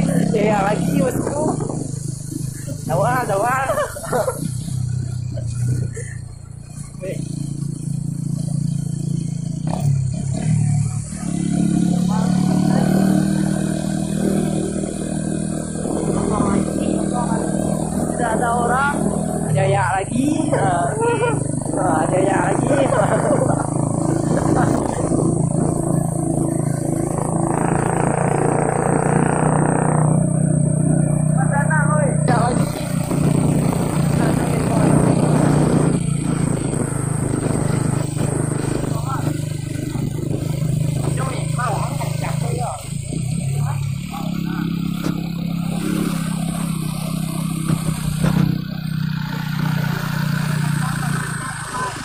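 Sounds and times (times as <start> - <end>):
truck engine droning: 0.0 - 52.0.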